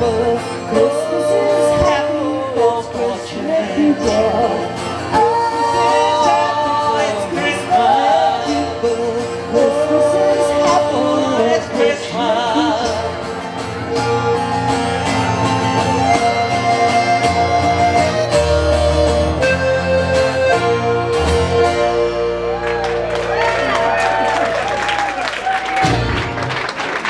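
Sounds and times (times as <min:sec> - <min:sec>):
bass line: 0:00.0 - 0:24.8
live band music: 0:00.0 - 0:27.0.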